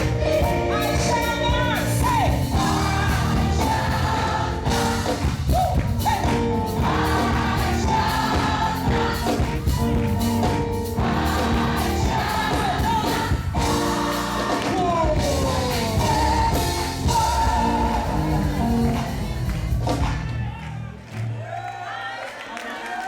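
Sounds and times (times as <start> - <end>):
gospel choir singing with band: 0.0 - 20.4.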